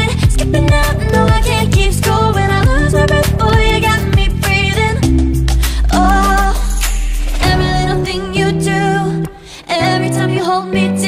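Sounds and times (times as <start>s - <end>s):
upbeat pop music: 0.0s - 11.0s.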